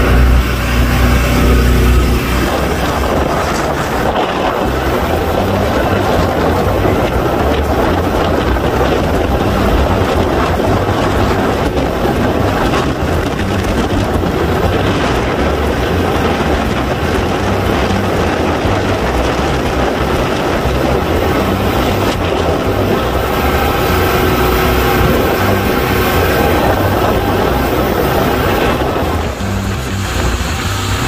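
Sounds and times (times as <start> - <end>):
motorboat engine: 0.0 - 31.0
rushing wake water: 0.0 - 31.0
wind buffeting microphone: 0.0 - 31.0.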